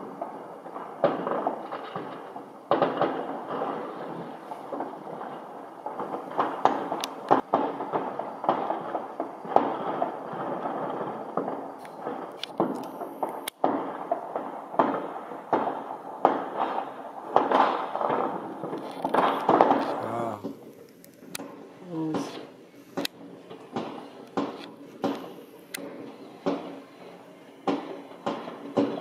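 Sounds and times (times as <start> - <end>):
crackle of firecrackers: 0.0 - 29.0
firework bangs: 0.0 - 29.0.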